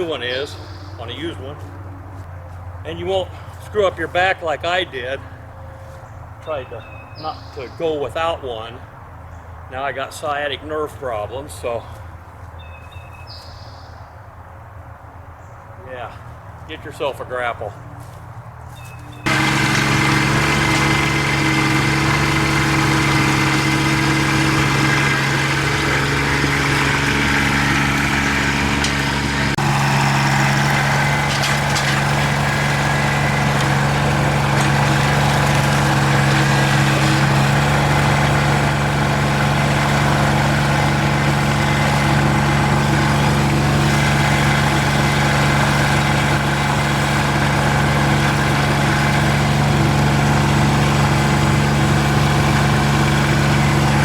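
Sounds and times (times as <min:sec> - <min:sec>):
tractor diesel engine running: 0:00.0 - 0:08.5, 0:18.0 - 0:54.0.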